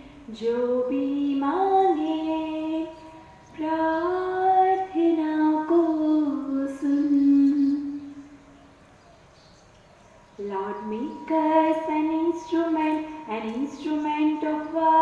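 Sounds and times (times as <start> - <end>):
girl singing unaccompanied: 0.0 - 8.4, 10.4 - 15.0.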